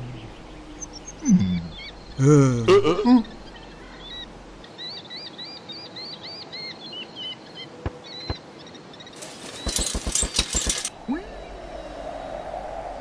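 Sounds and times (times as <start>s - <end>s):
birds chirping: 0.0s - 2.2s, 3.2s - 12.2s.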